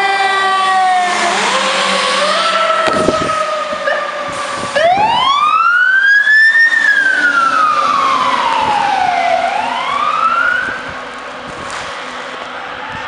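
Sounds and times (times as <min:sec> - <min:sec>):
fire truck siren wailing: 0:00.0 - 0:13.0.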